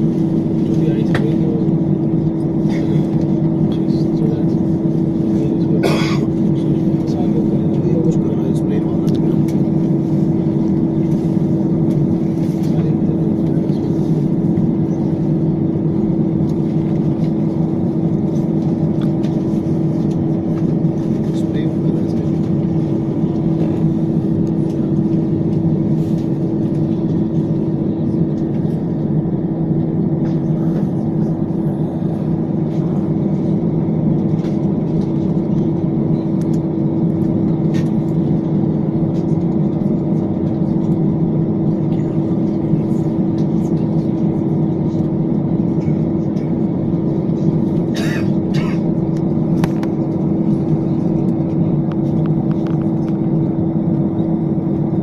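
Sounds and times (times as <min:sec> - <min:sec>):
machinery drone with pitched hum: 0:00.0 - 0:55.0.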